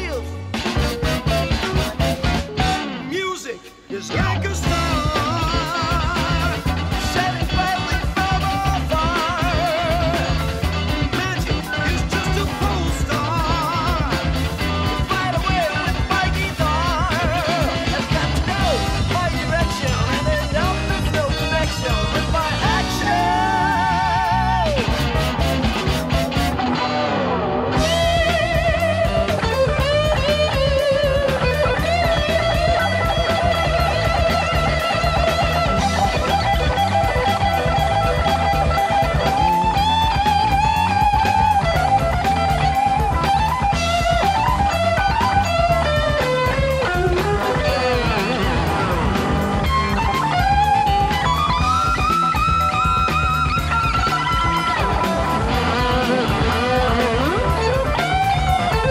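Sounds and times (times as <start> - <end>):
bass guitar: 0.0 - 58.9
drums: 0.0 - 58.9
electric guitar rock lead: 0.0 - 58.9.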